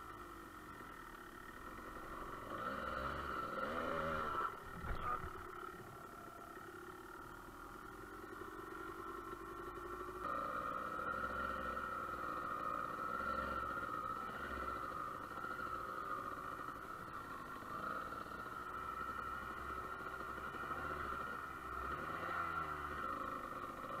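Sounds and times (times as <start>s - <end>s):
dirt bike engine: 0.0s - 24.0s.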